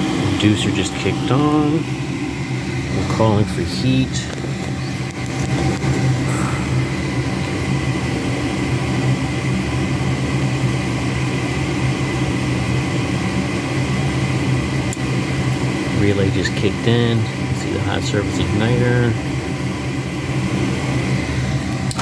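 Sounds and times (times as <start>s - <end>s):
furnace inducer motor humming: 0.0s - 22.0s.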